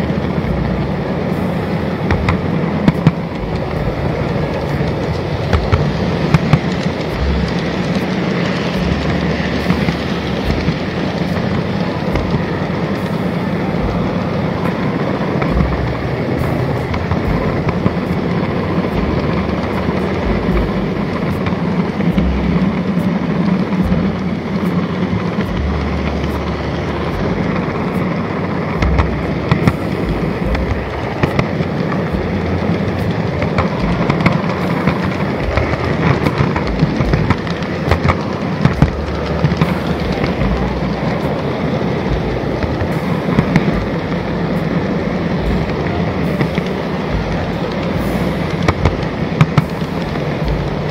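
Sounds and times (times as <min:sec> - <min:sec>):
model train rumbling hum: 0:00.0 - 0:50.9
wheels bumping and clicking on rails: 0:00.0 - 0:50.9.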